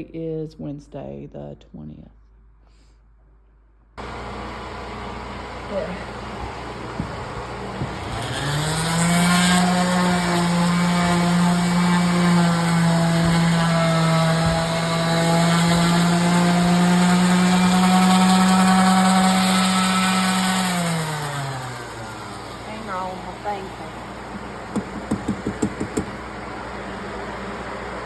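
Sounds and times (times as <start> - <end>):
electric sander sanding wood: 4.0 - 27.8.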